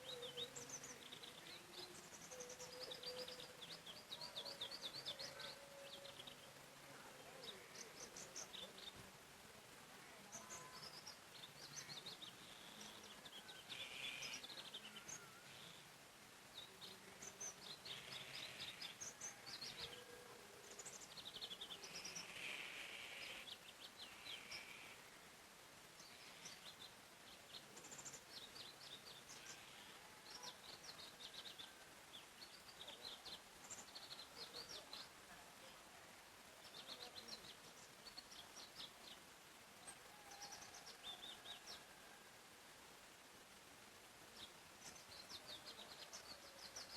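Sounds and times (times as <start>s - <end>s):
small birds chirping and singing: 0.0s - 46.9s.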